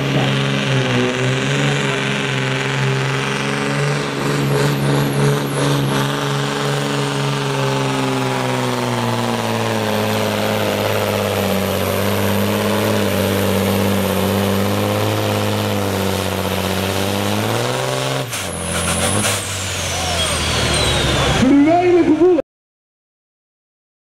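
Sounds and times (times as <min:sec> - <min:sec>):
truck diesel engine at full power: 0:00.0 - 0:22.4.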